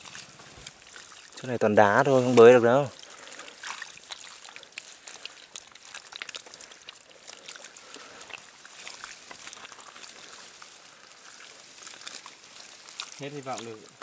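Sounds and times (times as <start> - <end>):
stream trickling over stones: 0.0 - 14.0.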